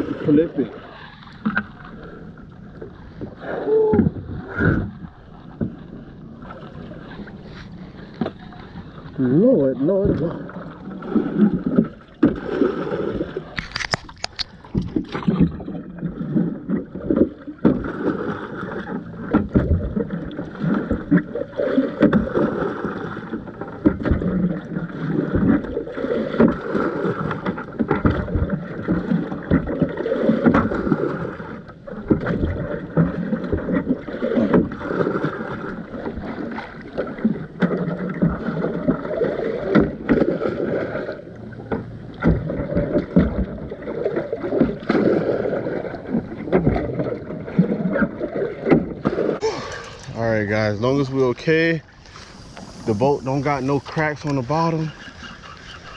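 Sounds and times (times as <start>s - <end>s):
water sloshing and splashing: 0.0s - 55.9s.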